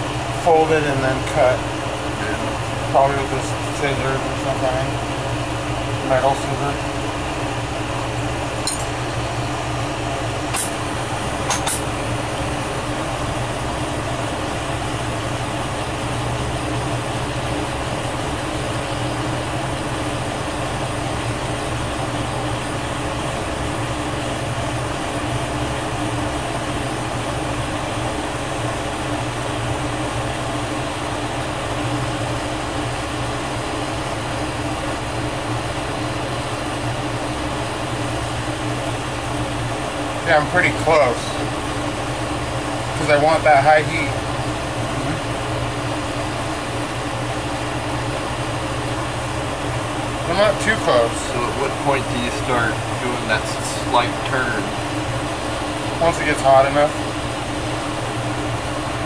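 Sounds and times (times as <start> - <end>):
torch flame hissing: 0.0 - 59.0.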